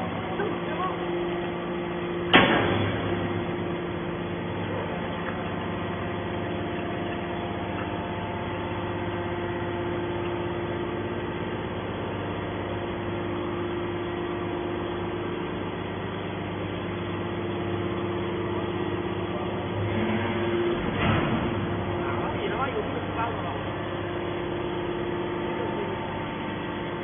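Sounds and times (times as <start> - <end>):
hydraulic power unit humming: 0.0 - 27.0.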